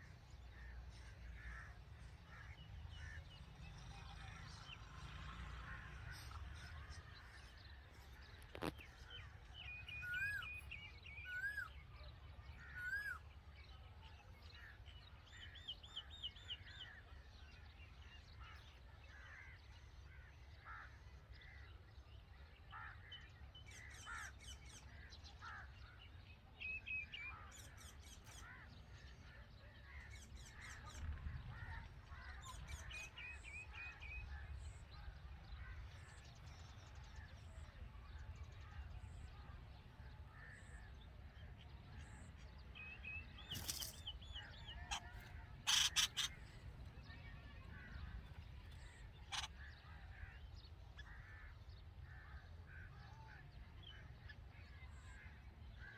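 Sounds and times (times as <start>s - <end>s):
birds calling and chirping: 0.0s - 21.9s, 22.7s - 55.9s.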